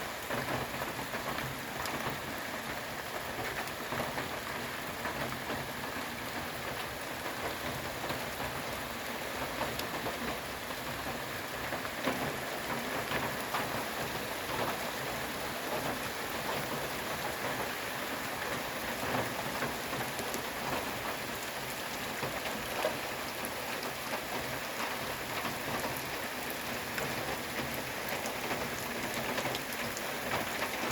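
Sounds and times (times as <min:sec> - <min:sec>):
rushing water and ice: 0:00.0 - 0:30.9.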